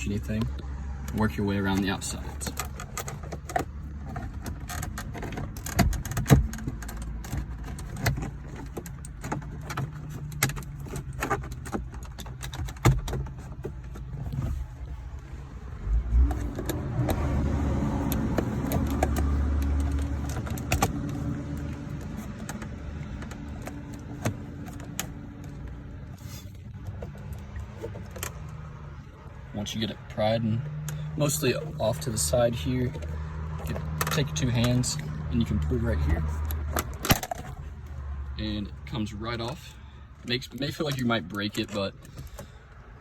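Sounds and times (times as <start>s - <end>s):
plastic trim clicking and rattling: 0.4s - 15.2s, 16.3s - 29.1s, 30.8s - 37.9s.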